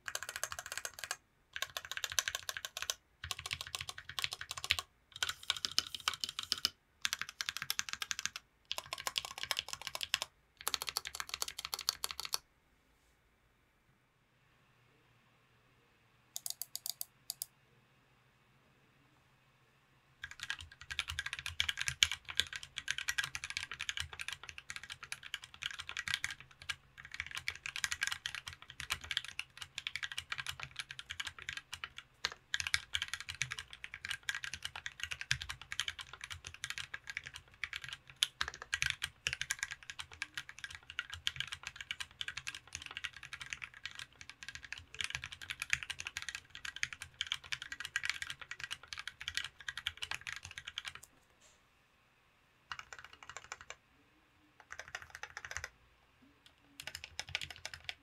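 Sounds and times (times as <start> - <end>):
mechanical keyboard typing: 0.0 - 12.4, 16.4 - 17.5, 20.2 - 51.1, 52.7 - 53.8, 54.6 - 55.7, 56.4 - 58.0.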